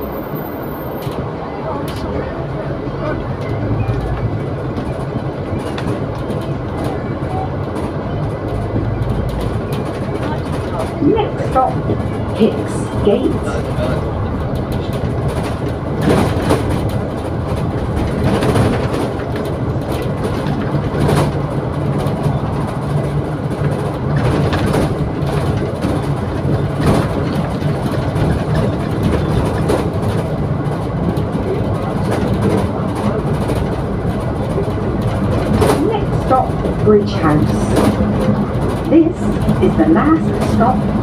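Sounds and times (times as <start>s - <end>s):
bus engine and road drone: 0.0s - 41.0s.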